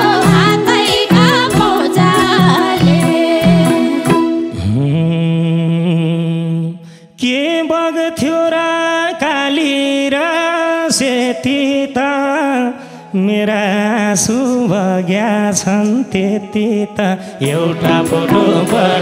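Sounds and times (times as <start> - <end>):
man singing into a microphone: 3.6 - 19.0.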